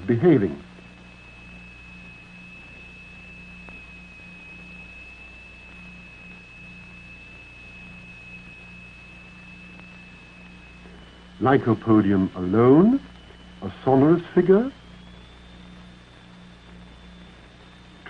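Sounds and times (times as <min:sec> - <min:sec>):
high-pitched vibrating plate tone: 0:00.0 - 0:18.0
low hum: 0:00.0 - 0:18.0.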